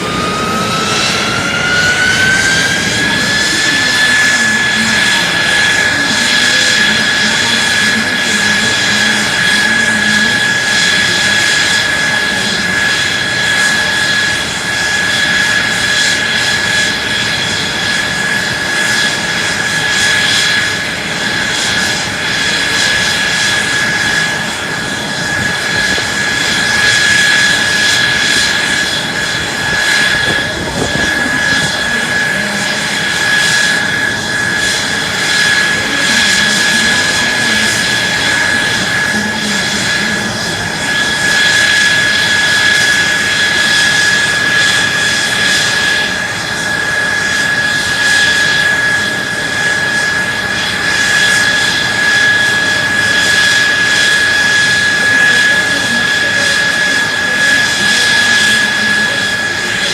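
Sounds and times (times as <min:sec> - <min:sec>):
jet engine rushing and whining: 0:00.0 - 0:59.9.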